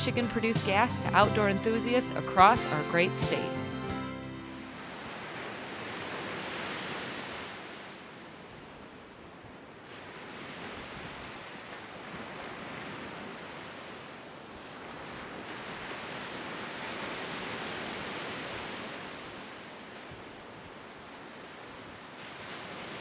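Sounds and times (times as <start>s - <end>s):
waves breaking on shore: 0.0s - 23.0s.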